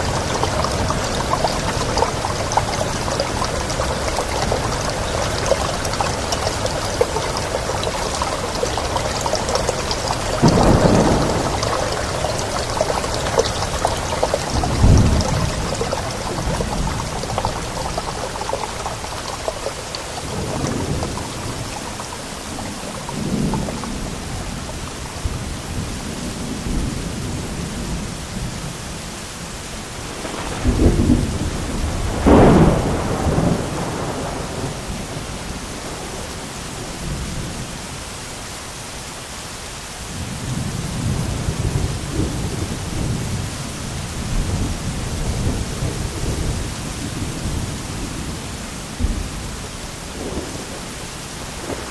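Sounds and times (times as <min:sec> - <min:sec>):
rolling thunder: 0:00.0 - 0:28.0, 0:30.1 - 0:37.4, 0:40.4 - 0:51.9
steady rain: 0:00.0 - 0:51.9.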